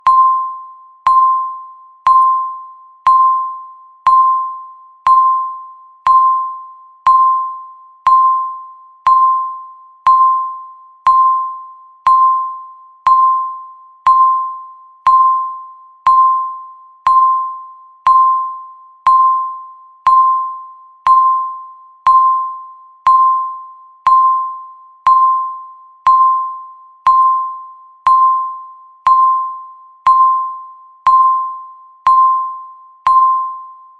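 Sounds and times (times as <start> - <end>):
countdown timer beep: 0.0 - 33.9.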